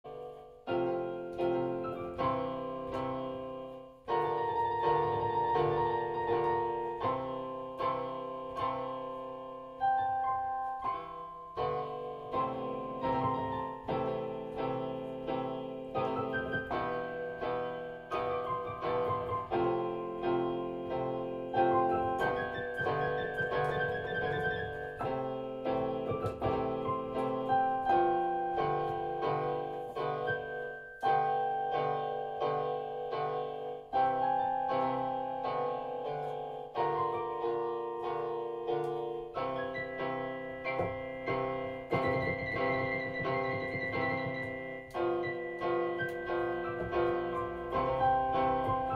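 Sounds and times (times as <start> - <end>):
solo piano music: 0.0 - 48.9.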